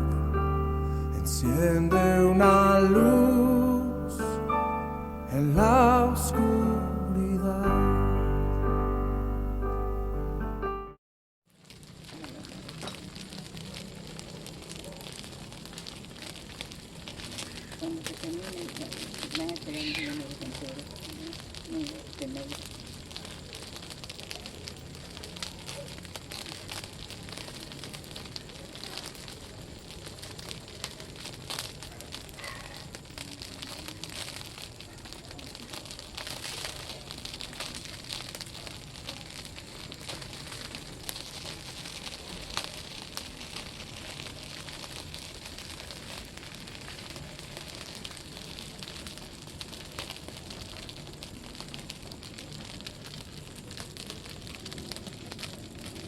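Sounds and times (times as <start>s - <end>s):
campfire crackling and hissing: 0.0s - 10.6s, 11.5s - 56.0s.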